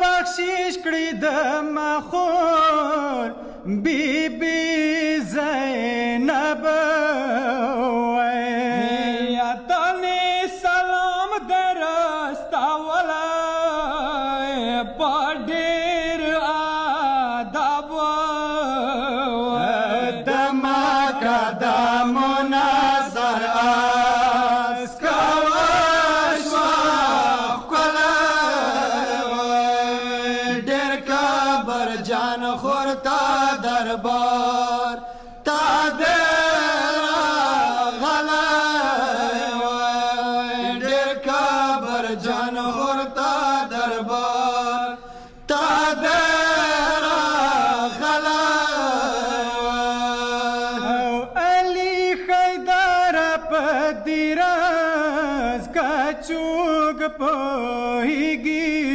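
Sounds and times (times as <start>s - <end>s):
men chanting a lament: 0.0s - 58.9s.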